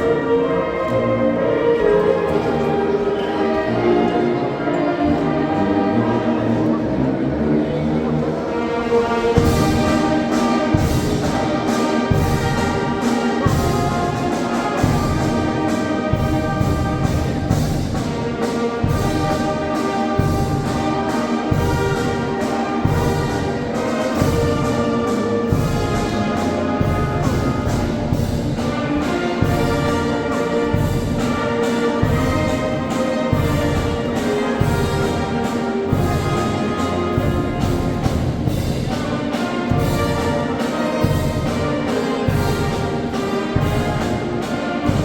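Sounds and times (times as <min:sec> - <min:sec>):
wind band playing: 0:00.0 - 0:45.0.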